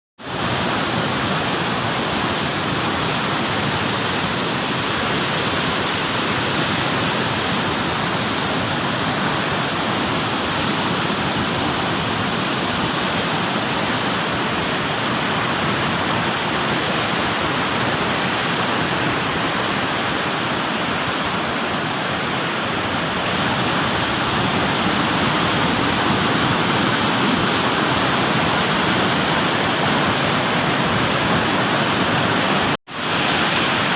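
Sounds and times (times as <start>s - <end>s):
rushing floodwater: 0.2s - 33.9s.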